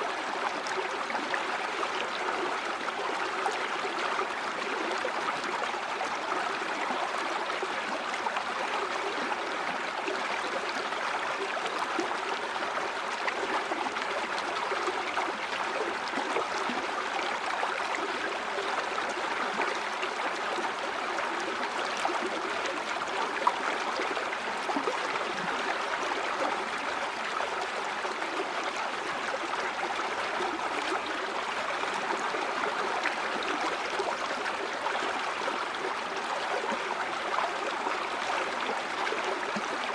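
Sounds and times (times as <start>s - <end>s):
stream water flowing over stones: 0.0s - 39.9s.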